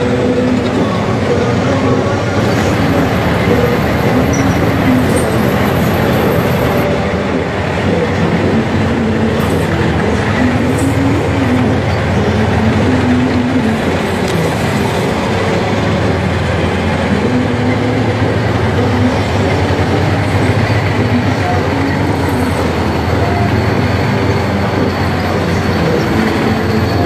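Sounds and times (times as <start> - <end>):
heavy vehicle engines running: 0.0 - 27.0.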